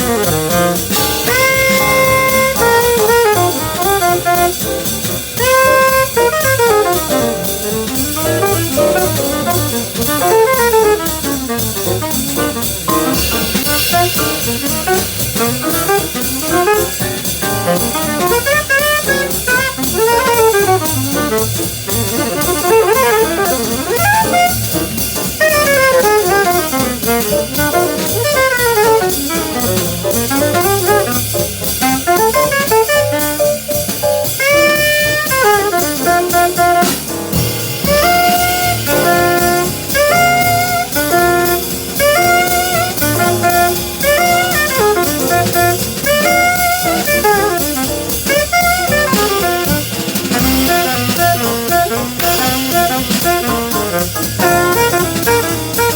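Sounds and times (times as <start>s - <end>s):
jazz band playing: 0.0s - 55.9s.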